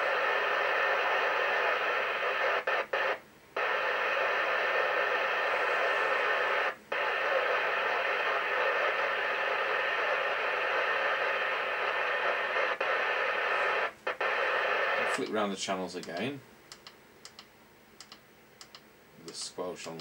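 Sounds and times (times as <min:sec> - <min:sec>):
radio static hiss: 0:00.0 - 0:16.5, 0:19.2 - 0:20.0.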